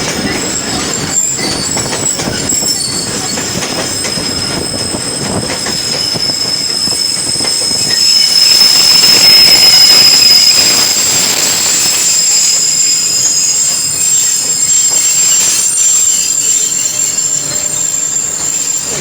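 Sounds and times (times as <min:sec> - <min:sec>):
rumble of moving coaches: 0:00.0 - 0:19.0
train wheels squealing on rails: 0:00.0 - 0:19.0.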